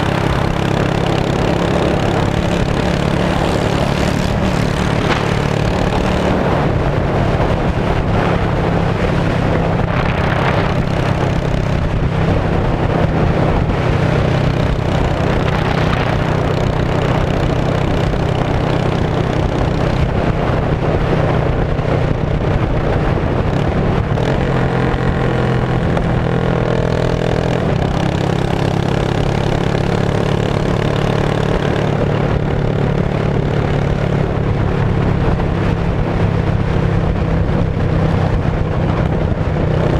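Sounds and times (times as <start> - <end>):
motorcycle exhaust running steadily: 0.0 - 39.9.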